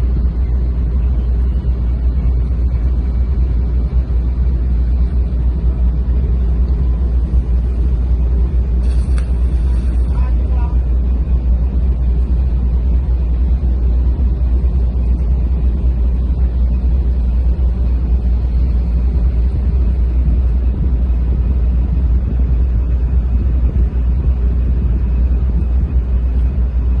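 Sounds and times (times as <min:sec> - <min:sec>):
ship engine droning: 0:00.0 - 0:27.0.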